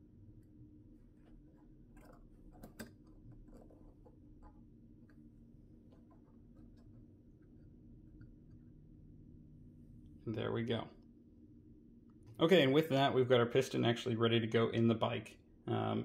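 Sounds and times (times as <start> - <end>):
low steady room hum: 0.0 - 16.0.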